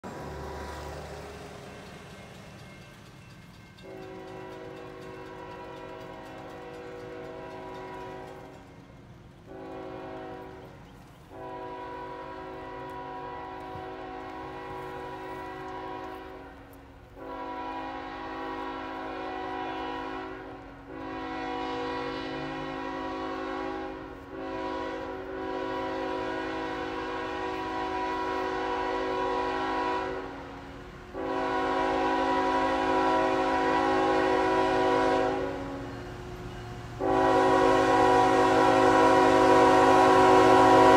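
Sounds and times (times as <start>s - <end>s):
locomotive air horn blasts: 3.8s - 8.4s, 9.5s - 10.7s, 11.3s - 36.2s, 37.0s - 40.9s.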